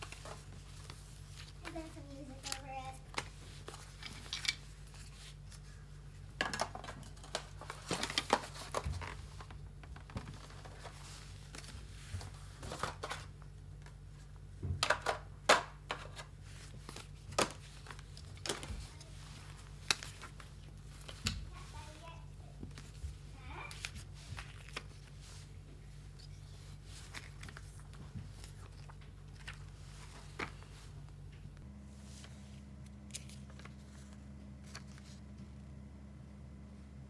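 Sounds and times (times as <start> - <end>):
paper and cardboard rustling: 0.0 - 15.2, 15.8 - 31.1, 32.0 - 35.2
steady low hum: 0.0 - 37.0.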